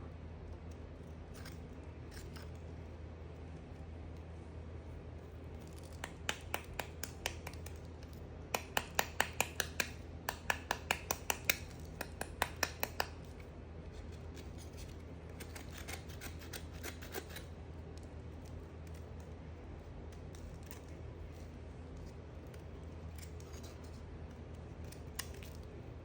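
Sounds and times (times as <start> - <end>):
blade cutting dry soap: 5.1 - 26.0.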